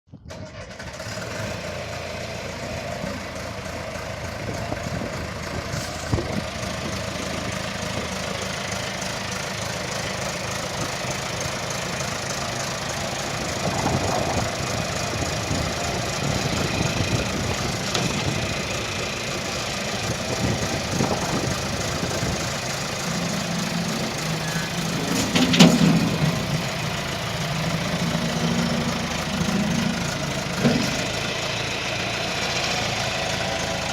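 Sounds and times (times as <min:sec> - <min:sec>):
backhoe engine idling: 0:00.3 - 0:33.9.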